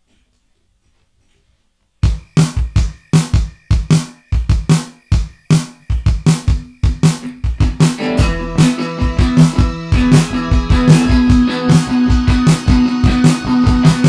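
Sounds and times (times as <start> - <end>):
kick and snare drum beat: 2.0 - 14.0.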